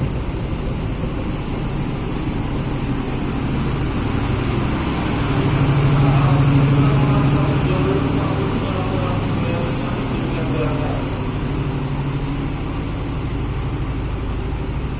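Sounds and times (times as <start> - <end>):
diesel locomotive engine droning: 0.0 - 14.9.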